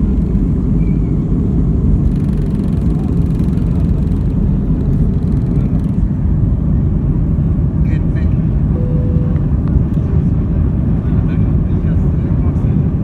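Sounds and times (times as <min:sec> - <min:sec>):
jet engines rumbling inside cabin: 0:00.0 - 0:13.0.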